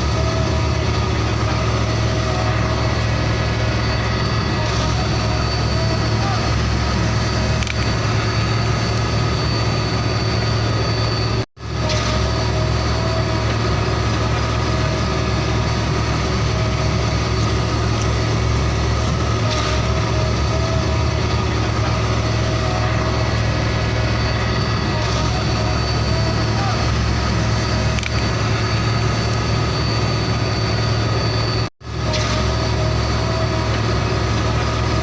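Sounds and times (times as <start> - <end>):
truck engine idling: 0.0 - 35.0.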